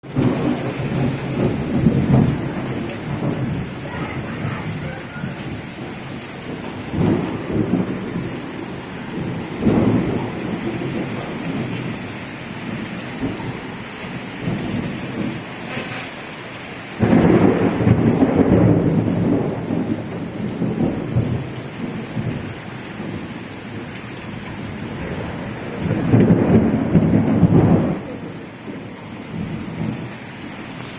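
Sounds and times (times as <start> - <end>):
rolling thunder: 0.0 - 15.8, 16.9 - 30.9
rain hissing: 0.0 - 30.9.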